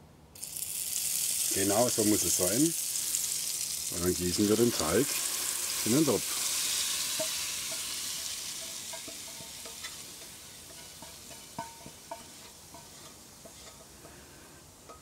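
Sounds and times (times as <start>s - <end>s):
batter sizzling in hot fat: 0.4s - 15.0s.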